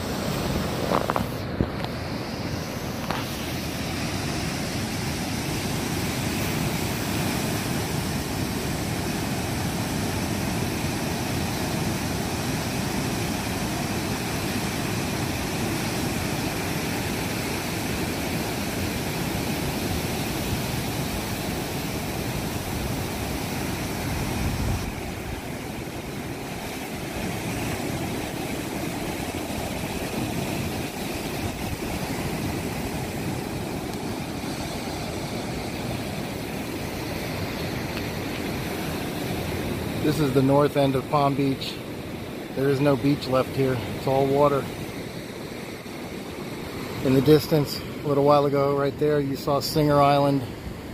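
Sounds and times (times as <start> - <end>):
heavy surf breaking: 0.0 - 50.9.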